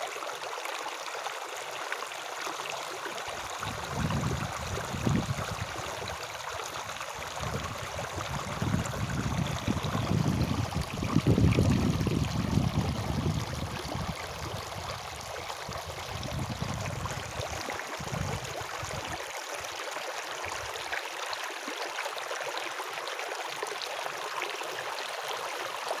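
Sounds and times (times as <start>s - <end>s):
stream of running water: 0.0s - 26.0s.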